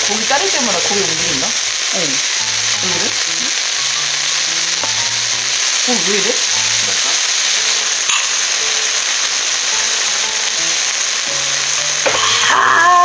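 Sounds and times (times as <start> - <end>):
food sizzling on grill pan: 0.0 - 13.0.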